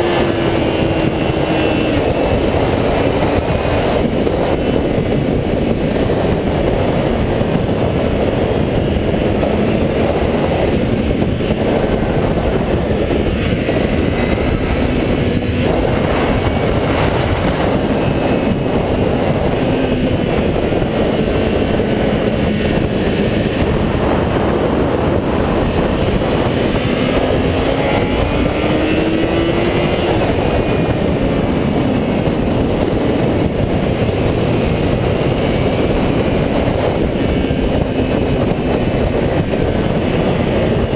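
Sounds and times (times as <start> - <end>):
motorcycle engine: 0.0 - 40.9
wind rushing: 0.0 - 40.9.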